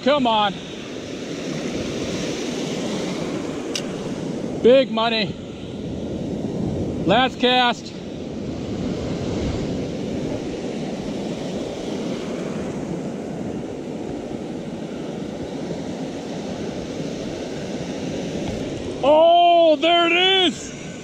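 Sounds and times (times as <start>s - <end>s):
ocean surf rushing: 0.0s - 21.0s
wind buffeting microphone: 0.0s - 21.0s.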